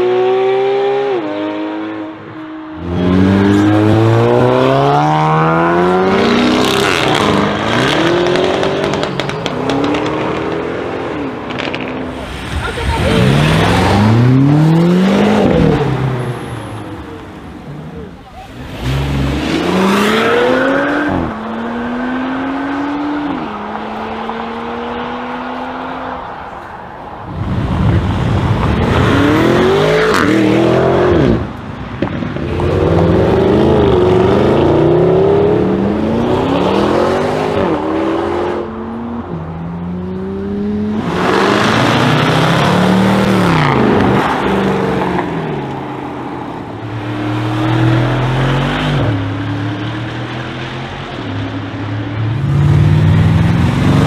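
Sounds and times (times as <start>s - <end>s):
car engines accelerating: 0.0s - 54.0s.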